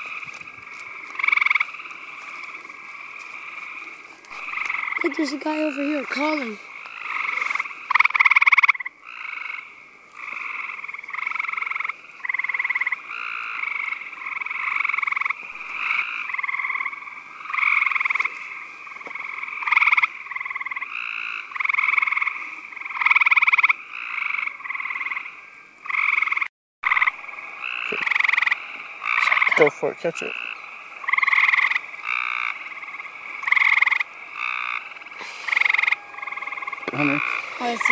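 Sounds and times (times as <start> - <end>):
treefrog trilling: 0.0 - 37.9.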